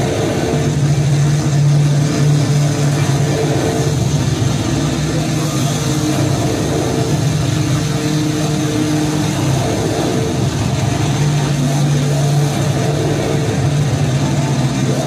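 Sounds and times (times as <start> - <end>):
low drone of held tones: 0.0 - 15.0
thick wash of noise: 0.0 - 15.0.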